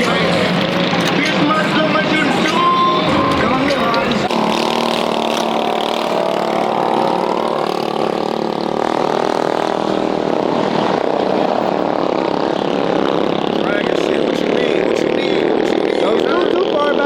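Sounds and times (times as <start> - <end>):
mini bike engine running: 0.0 - 17.0.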